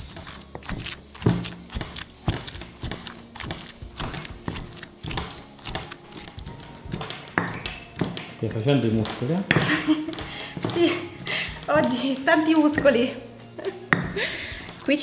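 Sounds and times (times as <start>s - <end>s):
pestle pounding in stone mortar: 0.0s - 13.0s, 13.9s - 14.9s
background music: 0.0s - 15.0s.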